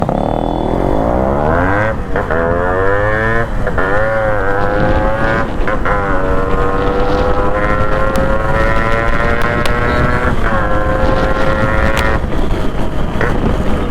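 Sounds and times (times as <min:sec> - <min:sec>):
two-stroke motorcycle accelerating: 0:00.0 - 0:13.9.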